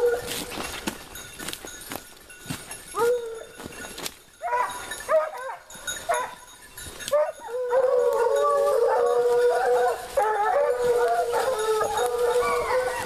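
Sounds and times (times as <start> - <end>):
hounds baying: 0.0 - 0.7, 2.8 - 13.0.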